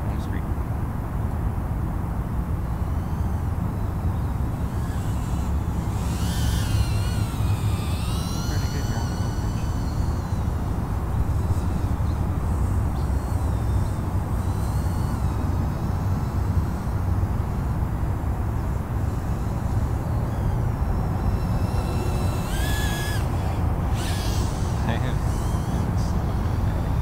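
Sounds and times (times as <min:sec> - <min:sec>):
drone motors whining: 0:00.0 - 0:27.0
wind rumble on microphone: 0:00.0 - 0:27.0.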